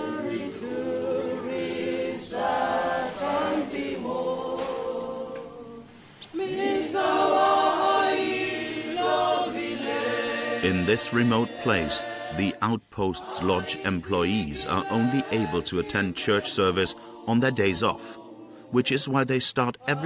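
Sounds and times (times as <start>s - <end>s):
group singing a cappella: 0.0s - 20.0s.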